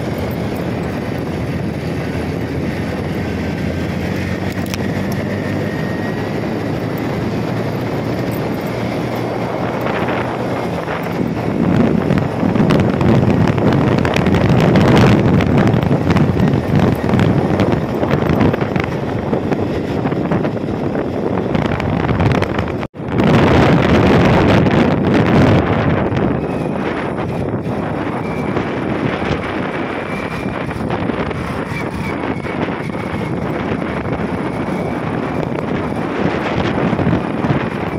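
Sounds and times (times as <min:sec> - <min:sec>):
moving vehicle running noise: 0:00.0 - 0:37.9
wind rushing over microphone: 0:00.0 - 0:37.9.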